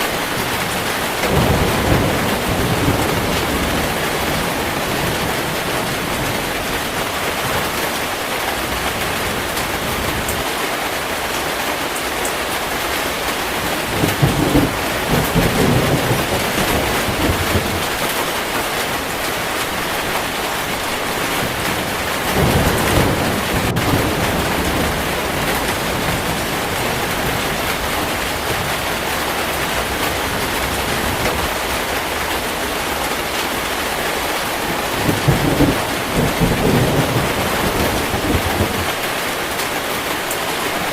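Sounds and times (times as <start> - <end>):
heavy rain falling: 0.0 - 40.9
thunder rumbling: 0.2 - 10.4, 13.1 - 40.9.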